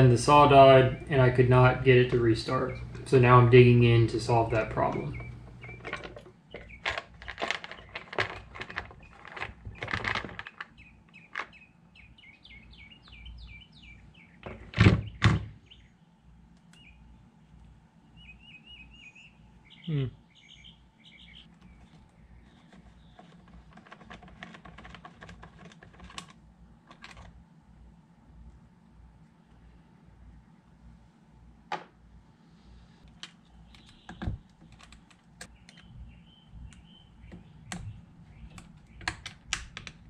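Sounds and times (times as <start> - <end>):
birds chirping faintly: 0.0 - 27.0, 32.4 - 40.0.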